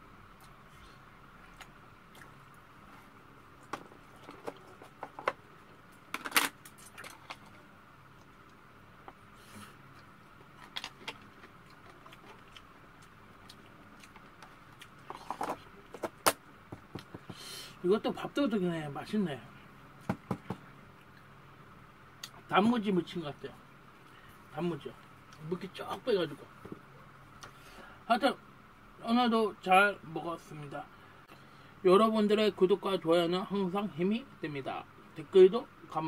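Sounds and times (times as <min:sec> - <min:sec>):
faint room hum: 0:00.0 - 0:36.0.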